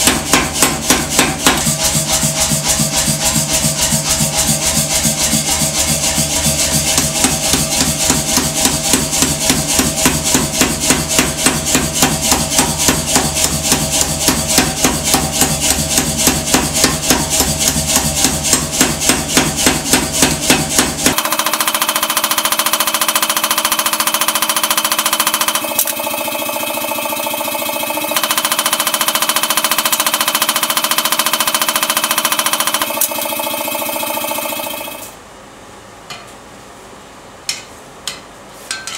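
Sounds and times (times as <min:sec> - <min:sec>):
power hammer striking steel: 0:00.0 - 0:35.1
machine running: 0:00.0 - 0:35.2.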